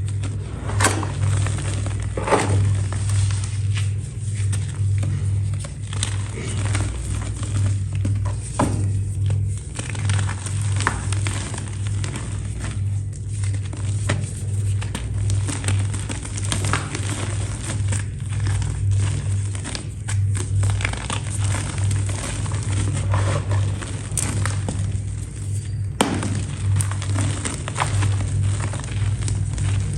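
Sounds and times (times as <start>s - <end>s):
brittle material crumbling: 0.0s - 29.9s
low hum: 0.0s - 29.9s.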